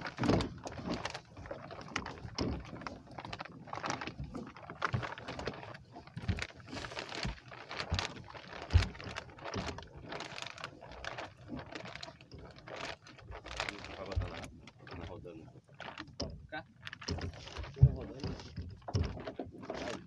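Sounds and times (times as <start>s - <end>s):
net and rope scraping on wood: 0.0s - 20.0s
small clicks and knocks: 0.0s - 20.0s.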